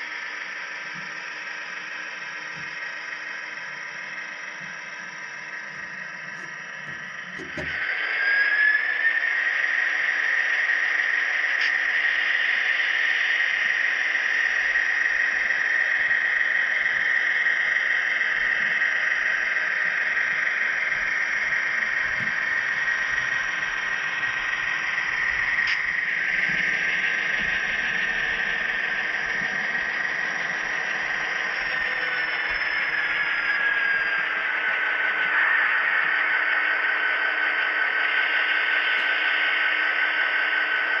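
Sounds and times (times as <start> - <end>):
model train motor whine: 0.0 - 41.0.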